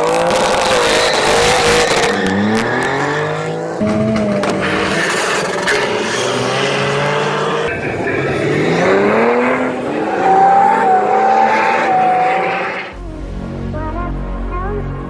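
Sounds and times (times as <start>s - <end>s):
tyre noise: 0.0s - 12.3s
car engine revving: 0.0s - 14.8s.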